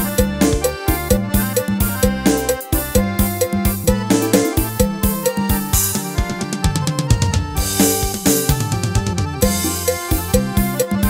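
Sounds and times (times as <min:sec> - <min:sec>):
keyboard procession music: 0:00.0 - 0:11.0
steady drum beat: 0:00.0 - 0:11.0.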